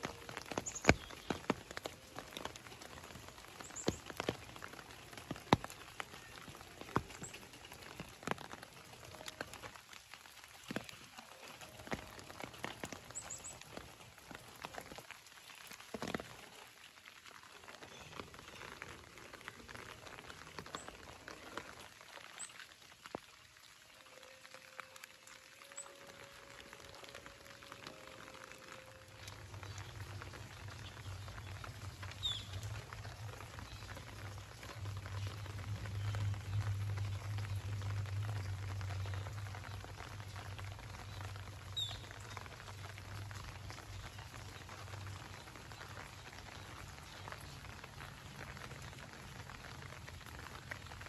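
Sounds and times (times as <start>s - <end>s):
rain patter on leaves: 0.0s - 51.0s.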